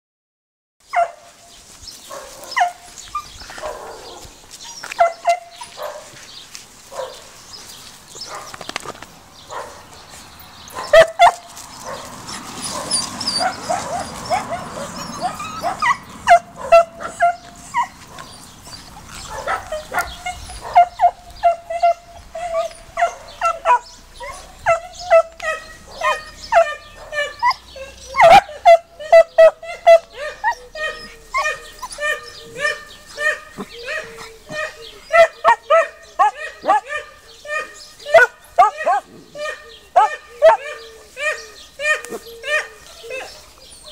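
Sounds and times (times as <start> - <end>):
small dogs yapping and barking: 0.9 - 1.3, 1.9 - 43.9.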